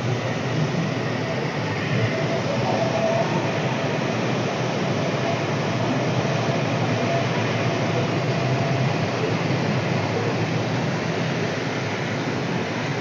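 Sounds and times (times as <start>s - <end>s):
ferry engines running: 0.0s - 13.0s.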